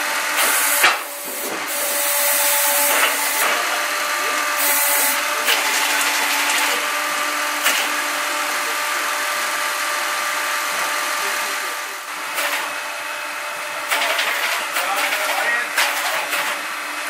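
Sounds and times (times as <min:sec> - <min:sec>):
band saw cutting log: 0:00.0 - 0:17.0.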